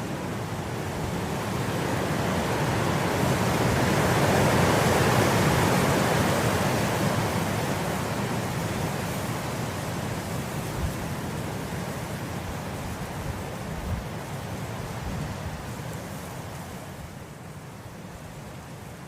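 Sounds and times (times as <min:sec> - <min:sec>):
wind blowing through grass: 0:00.0 - 0:19.0.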